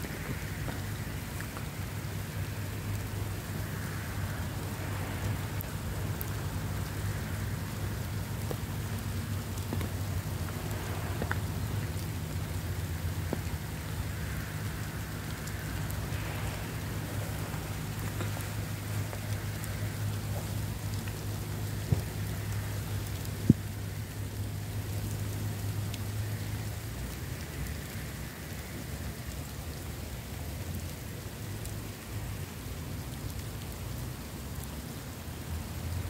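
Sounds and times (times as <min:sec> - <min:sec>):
low steady hum: 0:00.0 - 0:32.6
rain on wet pavement: 0:00.0 - 0:36.0.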